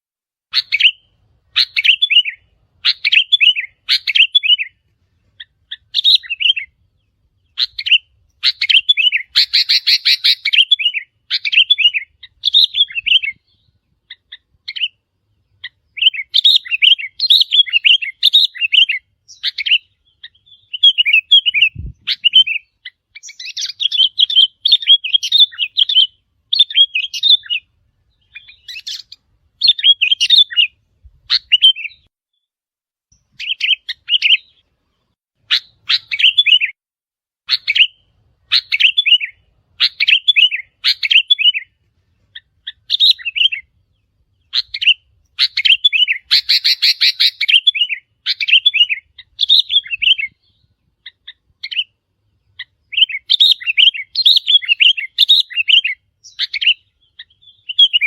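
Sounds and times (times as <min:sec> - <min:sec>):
bird chirping: 0:00.5 - 0:32.5, 0:33.1 - 0:36.8, 0:37.5 - 0:58.0.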